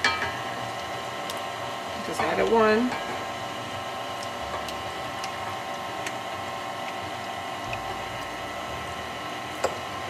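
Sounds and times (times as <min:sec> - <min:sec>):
stand mixer motor whine: 0:00.0 - 0:10.0.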